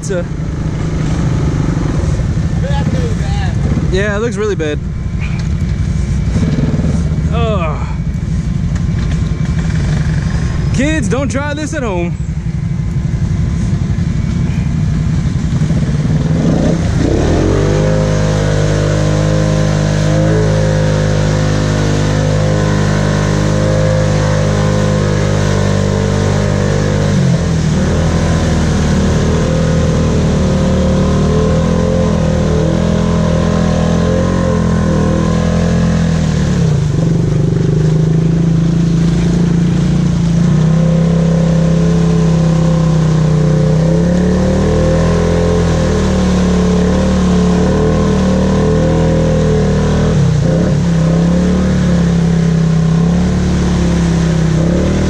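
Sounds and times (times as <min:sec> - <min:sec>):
atv engine revving under load: 0:00.0 - 0:55.0.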